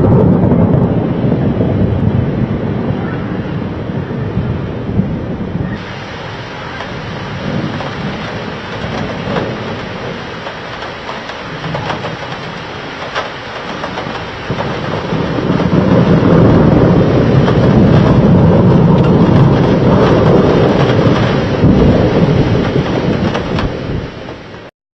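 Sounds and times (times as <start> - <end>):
rain hiss: 0.0 - 24.7
thunder rumbling: 0.0 - 24.7.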